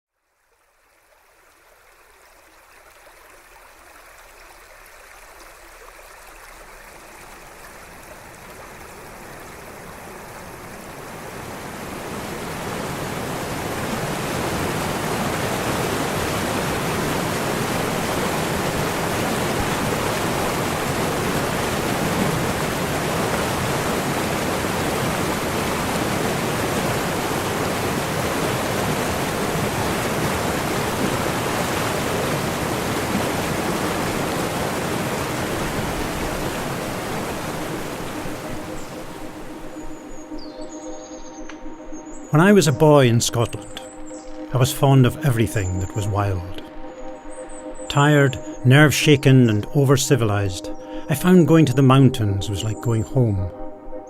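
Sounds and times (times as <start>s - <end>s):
rushing water: 0.3s - 53.4s.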